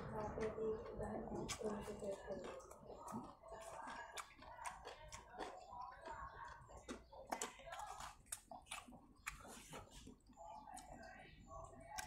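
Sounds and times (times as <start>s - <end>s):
man chewing noodles: 0.8s - 12.0s.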